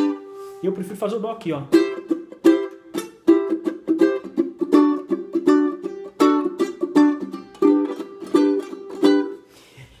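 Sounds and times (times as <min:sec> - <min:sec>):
ukulele fingerpicked: 0:00.0 - 0:09.5.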